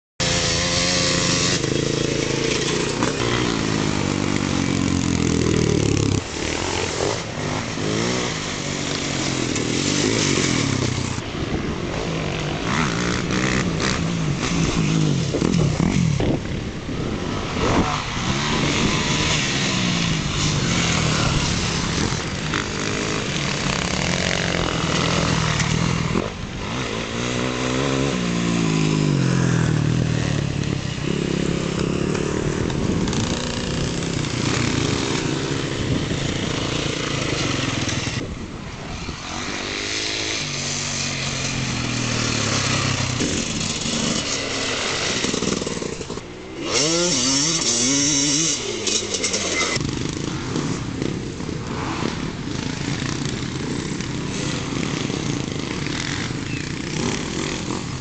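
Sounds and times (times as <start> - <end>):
dirt bike engines revving: 0.2 - 58.0.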